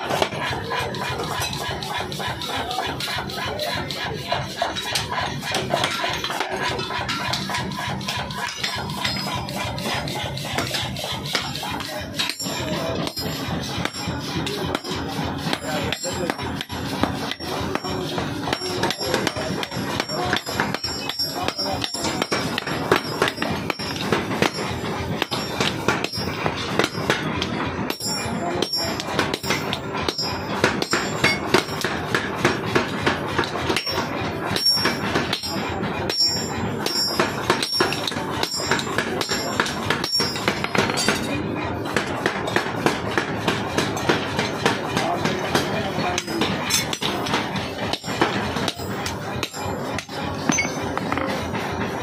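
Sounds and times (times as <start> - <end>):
hammer striking steel on anvil: 0.0 - 52.0.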